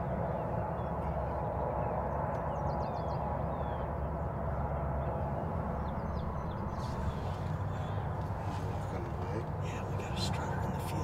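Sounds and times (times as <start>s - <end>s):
low outdoor rush: 0.0s - 11.0s.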